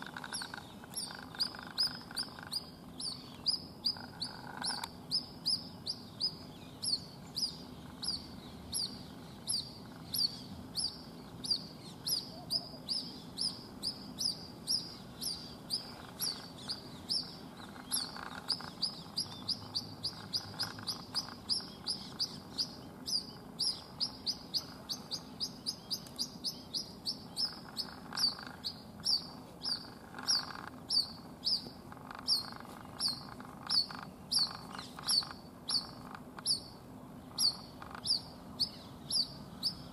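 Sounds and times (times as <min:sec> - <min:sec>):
bird chick peeping: 0:00.0 - 0:39.9.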